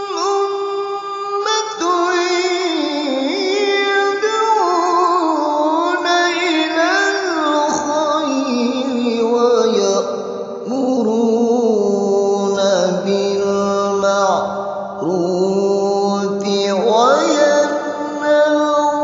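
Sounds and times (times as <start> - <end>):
person reciting melodically: 0.0 - 19.0.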